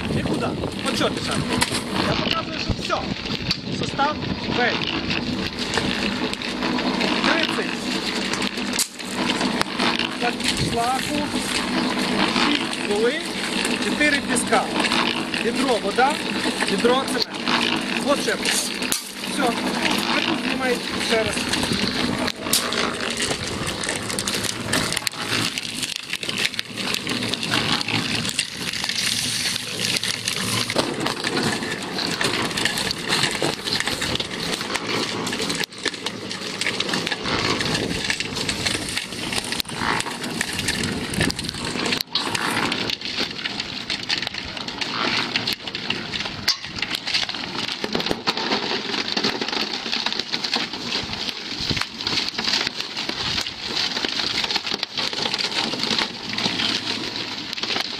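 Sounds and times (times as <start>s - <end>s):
concrete mixer turning: 0.0s - 57.9s
gritty mix tumbling and rattling: 0.0s - 57.9s.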